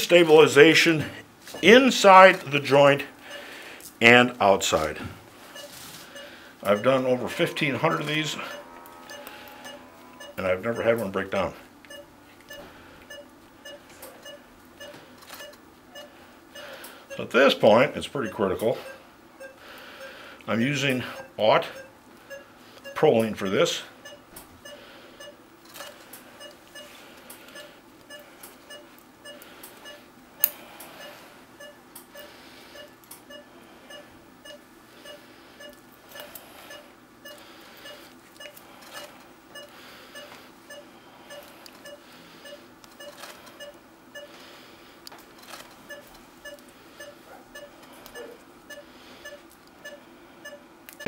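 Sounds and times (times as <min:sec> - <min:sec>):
patient monitor beeping: 0:00.0 - 0:51.0.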